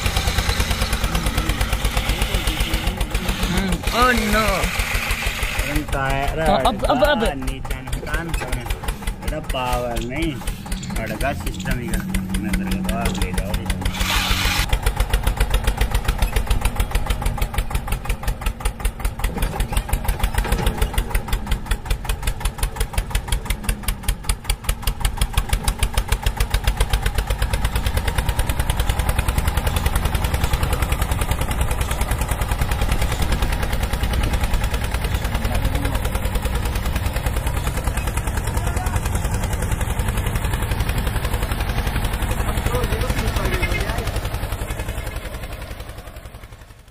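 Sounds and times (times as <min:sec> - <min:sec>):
engine chugging: 0:00.0 - 0:46.9.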